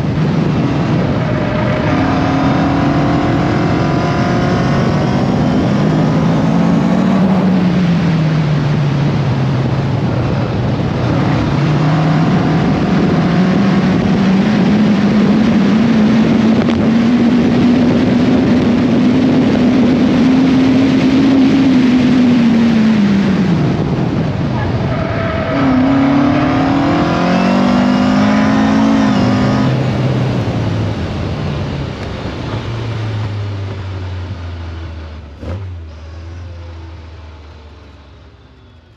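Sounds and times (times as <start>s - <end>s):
wind rush on microphone: 0.0s - 35.0s
sports car engine: 0.0s - 38.9s.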